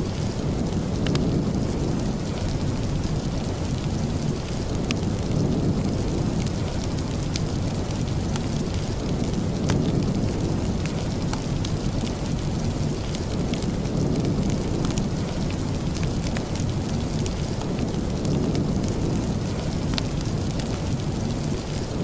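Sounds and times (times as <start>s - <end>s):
fireplace crackling: 0.0s - 22.0s
steady rain: 0.0s - 22.0s.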